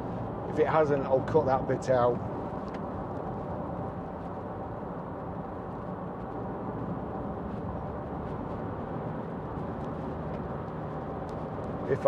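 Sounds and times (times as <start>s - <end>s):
road tyre and engine noise in cabin: 0.0s - 12.0s.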